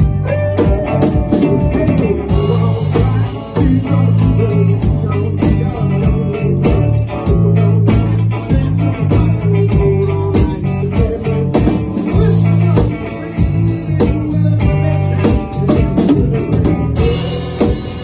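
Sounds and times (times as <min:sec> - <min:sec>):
bass guitar: 0:00.0 - 0:18.0
drum beat: 0:00.0 - 0:18.0
electric guitar: 0:00.0 - 0:18.0.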